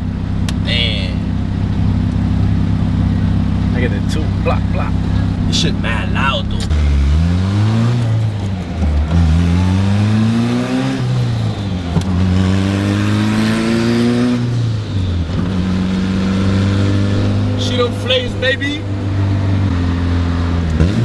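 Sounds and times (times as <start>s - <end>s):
turbocharged car engine revving: 0.0s - 21.0s.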